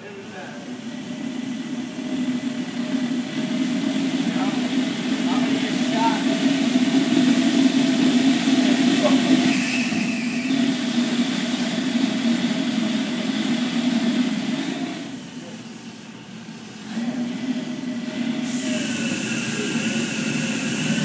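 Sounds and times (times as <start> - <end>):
small jet engine rushing drone: 0.0 - 15.2, 17.0 - 21.0.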